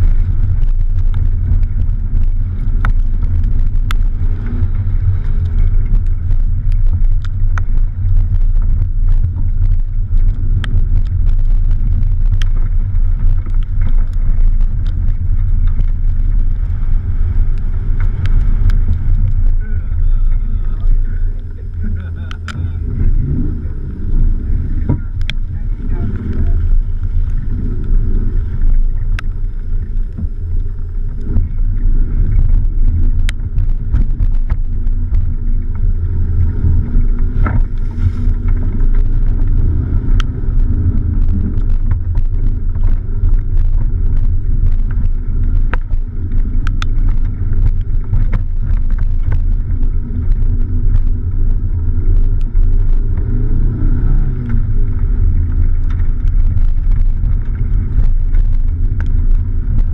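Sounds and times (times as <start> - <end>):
engine and tyres rumbling: 0.0 - 59.9
sharp clicks and ticks: 0.0 - 59.9.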